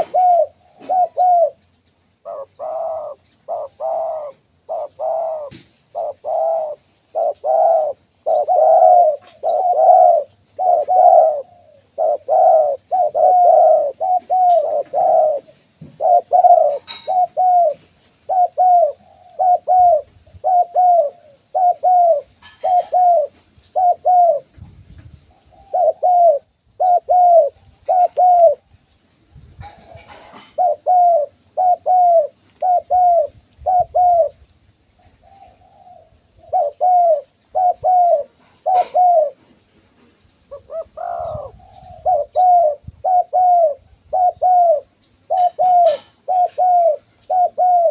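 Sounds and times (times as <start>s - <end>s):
dove cooing: 0.0s - 28.7s, 29.4s - 47.9s.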